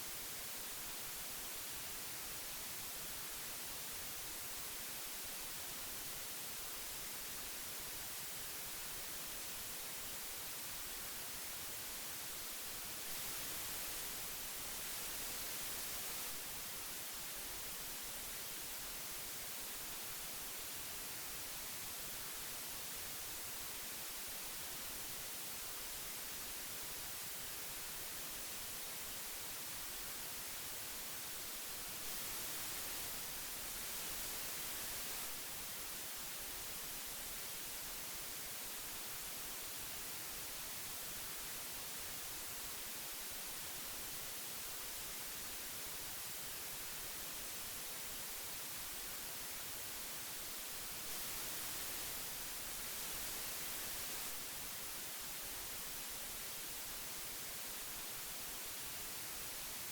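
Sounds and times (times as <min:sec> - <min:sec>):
magnetic tape hiss: 0:00.0 - 0:59.9.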